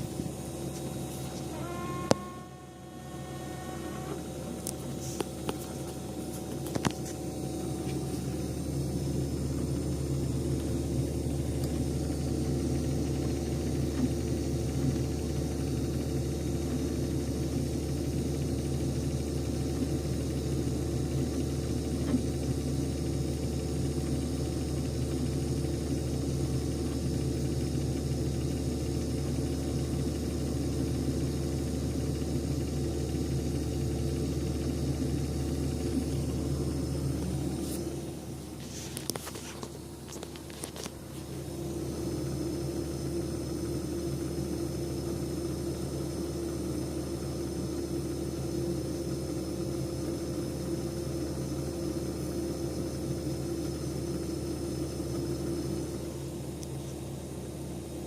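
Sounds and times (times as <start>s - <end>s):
refrigerator humming: 0.0s - 58.0s.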